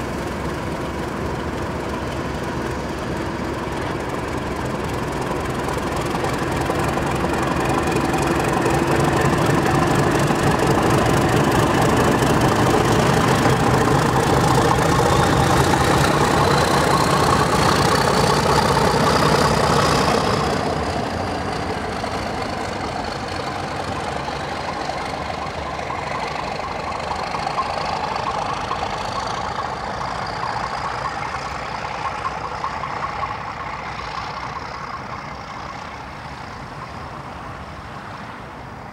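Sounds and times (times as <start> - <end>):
diesel locomotive drawing away: 0.0 - 38.9
diesel locomotive engine running: 0.0 - 38.9
locomotive whine: 0.0 - 38.9.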